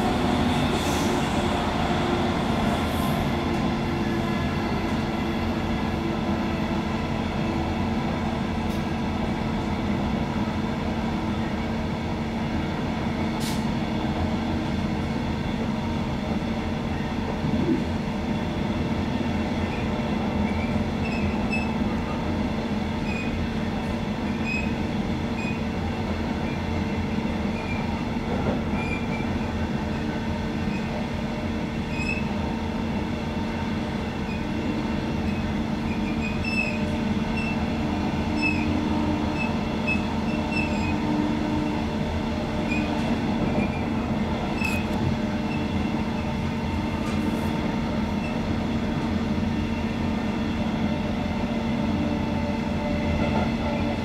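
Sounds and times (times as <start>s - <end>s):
train wheels rumbling with drone: 0.0s - 54.0s.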